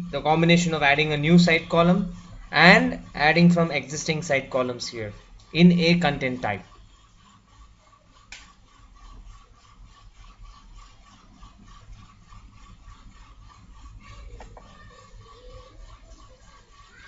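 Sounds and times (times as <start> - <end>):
thin steady tone: 0.0 - 17.0.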